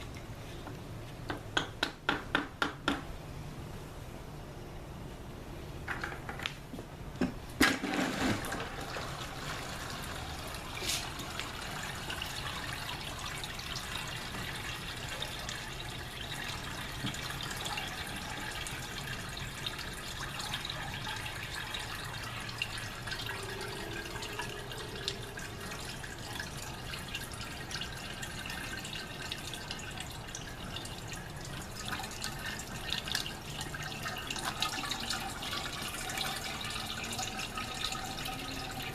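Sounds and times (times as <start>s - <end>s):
water sloshing in a bucket: 7.6s - 38.9s.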